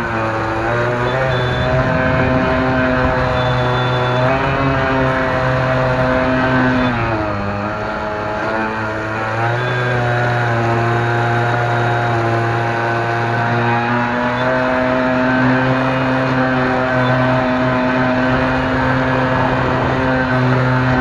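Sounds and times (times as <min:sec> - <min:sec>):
model boat motor running: 0:00.0 - 0:21.0.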